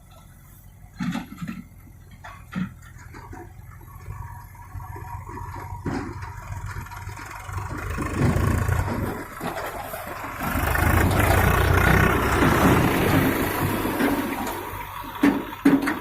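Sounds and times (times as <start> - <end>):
heavy diesel engine revving: 2.5 - 16.0.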